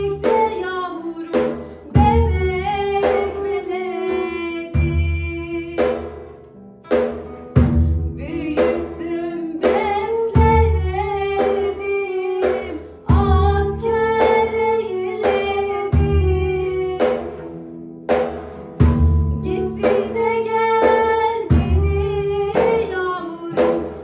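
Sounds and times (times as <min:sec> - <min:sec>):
woman singing folk song: 0:00.0 - 0:07.0, 0:07.6 - 0:24.0
frame drum strokes: 0:00.0 - 0:24.0
guitar: 0:00.0 - 0:24.0.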